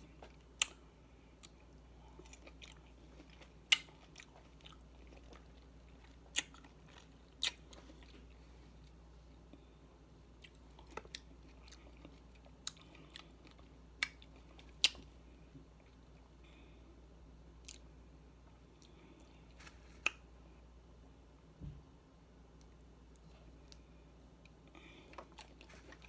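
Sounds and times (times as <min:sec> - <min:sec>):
person chewing fruit: 0:00.0 - 0:16.6, 0:17.6 - 0:20.4, 0:22.5 - 0:26.0.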